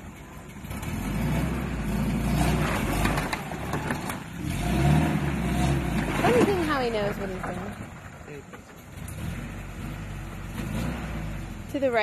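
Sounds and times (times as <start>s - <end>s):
car engine revving under load: 0.3s - 12.0s.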